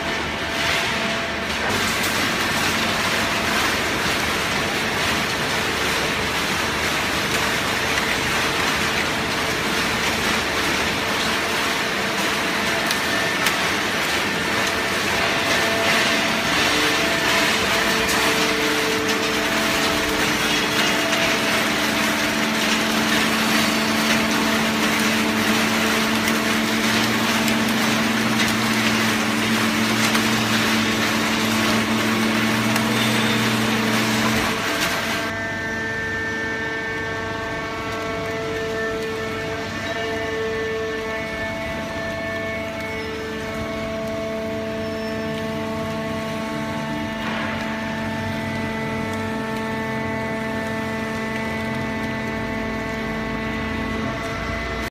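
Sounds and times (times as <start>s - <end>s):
hydraulic baler machinery hum: 0.0s - 54.9s.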